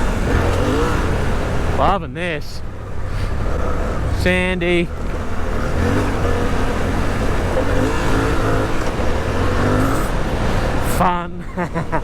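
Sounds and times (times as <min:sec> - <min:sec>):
motorcycle engine revving: 0:00.0 - 0:11.0
wind and riding noise rumble: 0:00.0 - 0:12.0.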